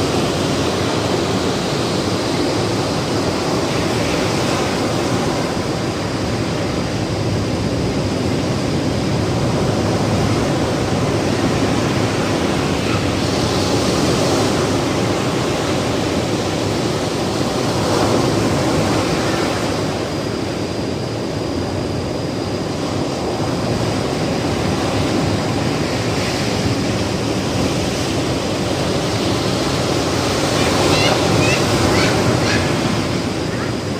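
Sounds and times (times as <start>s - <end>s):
ocean surf breaking on beach: 0.0s - 33.9s.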